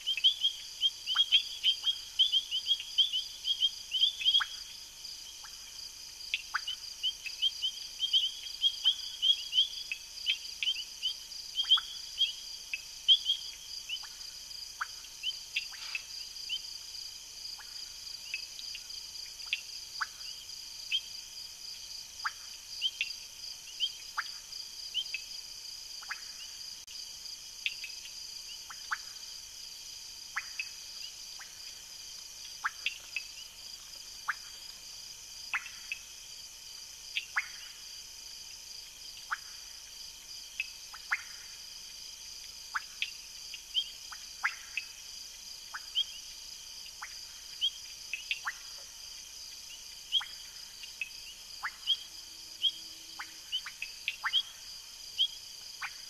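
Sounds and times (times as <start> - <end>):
frogs calling: 0.0 - 16.8, 22.2 - 26.7, 27.6 - 29.4, 30.3 - 31.8, 32.6 - 36.4, 37.1 - 38.0, 38.8 - 40.0, 40.6 - 41.7, 42.6 - 56.0
insects trilling: 0.0 - 56.0.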